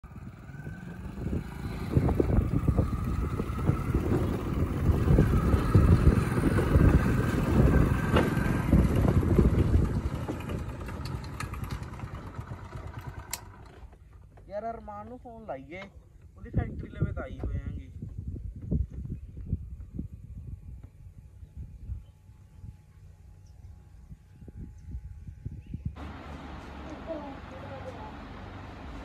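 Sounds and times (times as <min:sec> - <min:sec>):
small motorcycle engine running: 0:00.0 - 0:14.3, 0:19.4 - 0:29.0.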